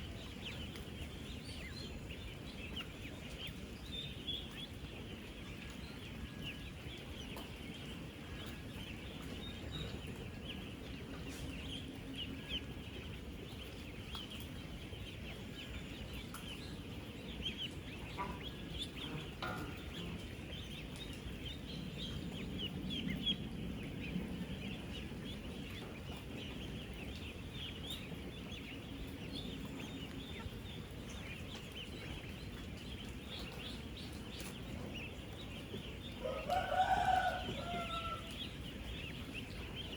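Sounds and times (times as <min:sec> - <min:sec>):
ducklings peeping: 0:00.0 - 0:39.9
low steady rumble: 0:00.0 - 0:39.9.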